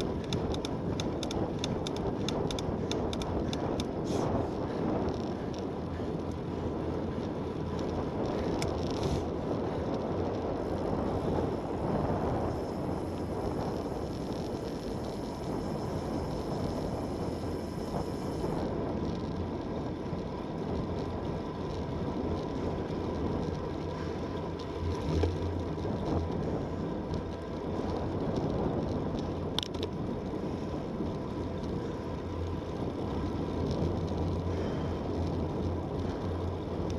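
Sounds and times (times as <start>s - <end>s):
bicycle tyre noise: 0.0s - 36.9s
wind noise: 0.0s - 36.9s.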